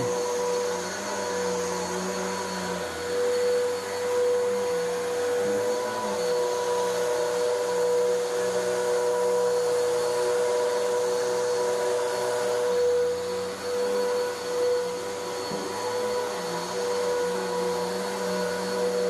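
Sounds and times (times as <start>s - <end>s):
vacuum cleaner running on carpet: 0.0s - 19.0s.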